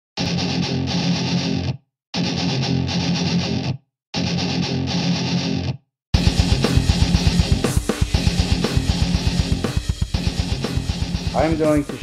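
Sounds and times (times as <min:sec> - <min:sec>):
distorted electric guitar chords: 0:00.2 - 0:12.0.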